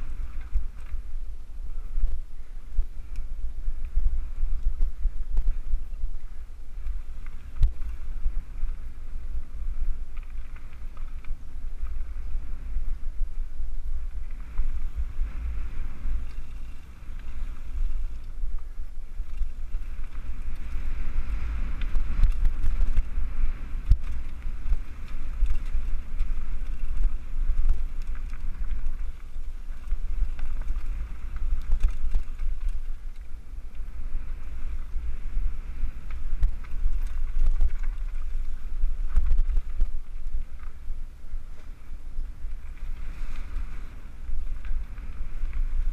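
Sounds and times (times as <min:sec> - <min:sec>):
mountain bike rumble and rattle: 0:00.0 - 0:45.9
wind buffeting microphone: 0:00.0 - 0:45.9.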